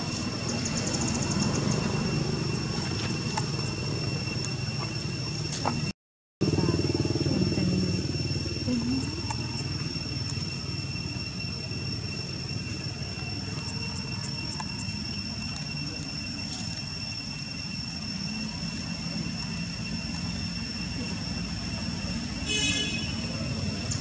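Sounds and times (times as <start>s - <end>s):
high-pitched whine: 0.0s - 24.0s.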